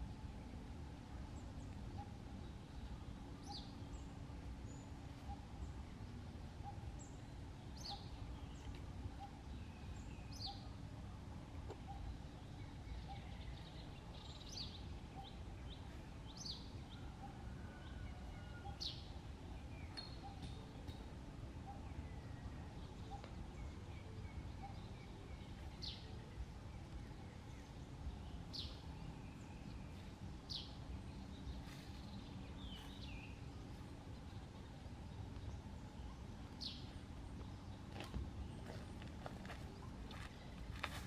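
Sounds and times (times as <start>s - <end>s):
birds chirping: 0.0s - 41.0s
low outdoor rumble: 0.0s - 41.0s.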